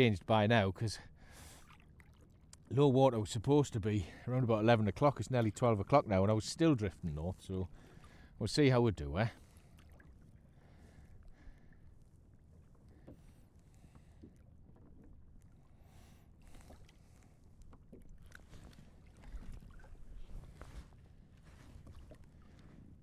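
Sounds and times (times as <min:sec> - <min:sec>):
waves lapping against kayak hull: 0:01.1 - 0:23.0.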